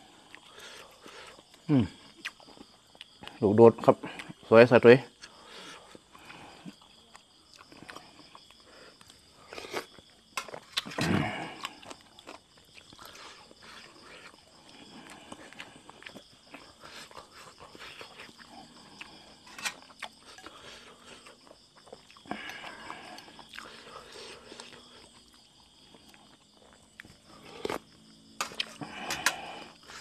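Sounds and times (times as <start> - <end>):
man chewing food: 0.0 - 3.4, 4.0 - 4.4, 5.1 - 30.0
insects chirring: 0.0 - 30.0.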